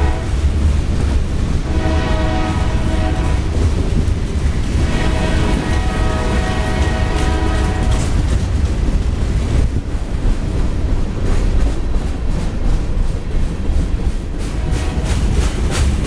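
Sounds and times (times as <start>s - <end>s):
freight train rumbling past: 0.0s - 16.0s
wheels clattering over rail joints: 3.0s - 16.0s.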